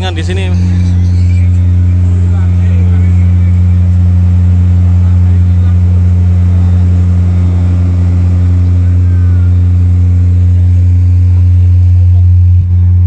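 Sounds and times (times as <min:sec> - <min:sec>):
deep bass tone from subwoofers: 0:00.0 - 0:13.0.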